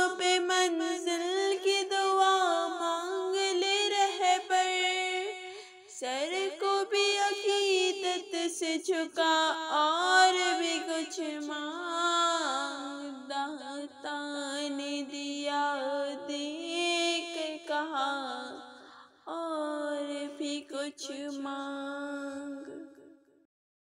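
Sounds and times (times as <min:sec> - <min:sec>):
woman singing devotional song: 0:00.0 - 0:23.3.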